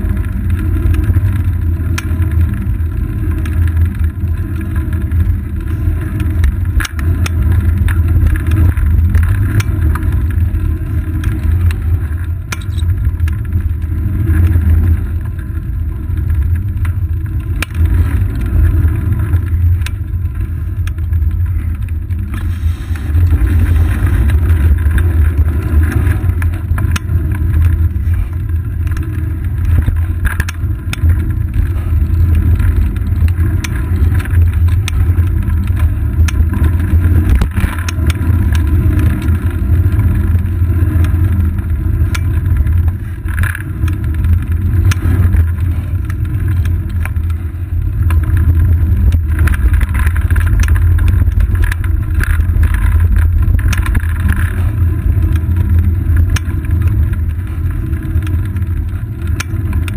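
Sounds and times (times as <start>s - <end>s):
bicycle knocks and rattles: 0.0s - 59.9s
wind and road rumble: 0.0s - 59.9s.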